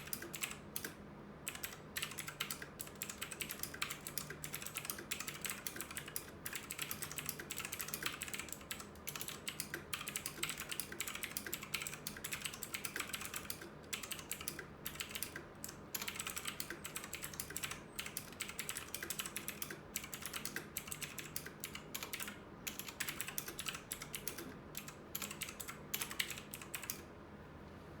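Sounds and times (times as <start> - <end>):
clicky keyboard typing: 0.0 - 27.1.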